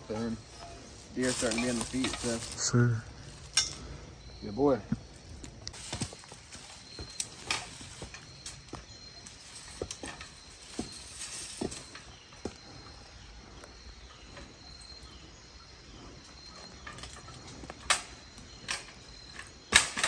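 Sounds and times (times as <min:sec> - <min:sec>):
high insect chirring: 0:00.0 - 0:20.0.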